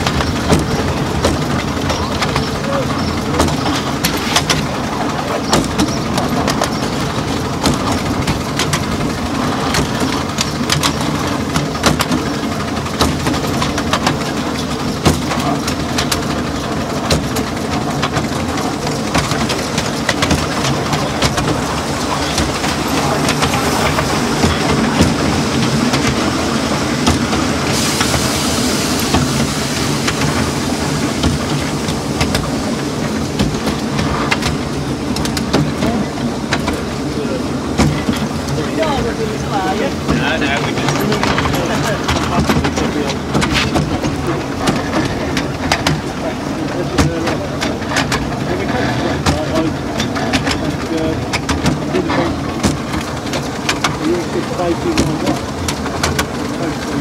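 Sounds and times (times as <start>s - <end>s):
miniature train running: 0.0s - 57.0s
wheels clicking over rail joints: 0.0s - 57.0s.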